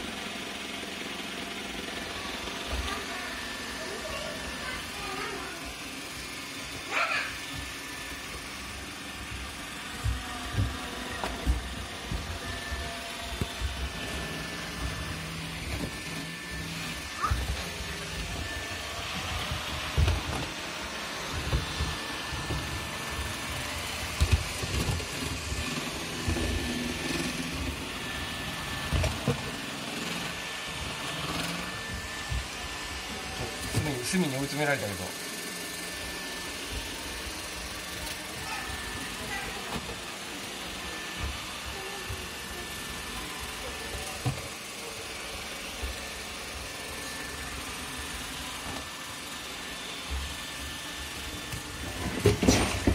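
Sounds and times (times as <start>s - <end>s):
robot vacuum motor whirring: 0.0s - 52.9s.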